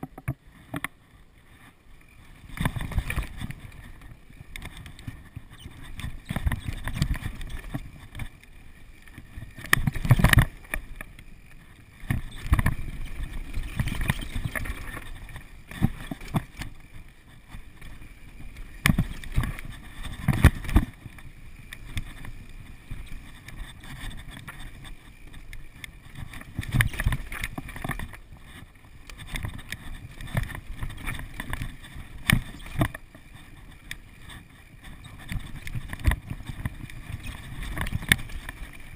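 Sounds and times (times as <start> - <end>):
mountain bike rattling: 1.5 - 38.9.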